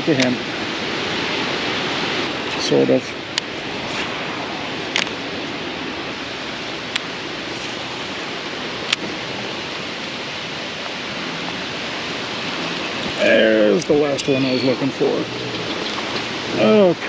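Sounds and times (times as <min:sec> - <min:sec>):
rain falling on water: 0:00.0 - 0:17.0
raindrops ticking close by: 0:00.0 - 0:17.0.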